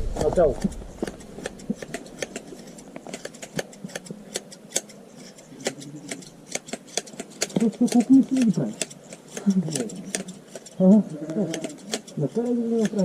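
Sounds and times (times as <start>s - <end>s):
sheep shears snipping: 0.2s - 13.0s.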